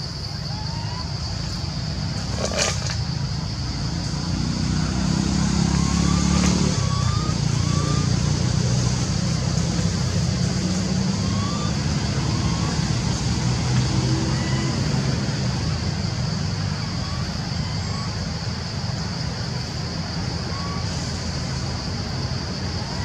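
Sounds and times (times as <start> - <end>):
low engine-like rumble: 0.0 - 23.0.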